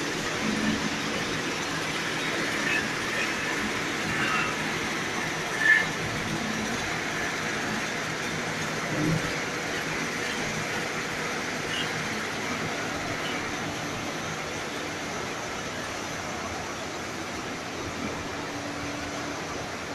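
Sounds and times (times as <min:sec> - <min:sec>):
conveyors and dryer running: 0:00.0 - 0:19.9.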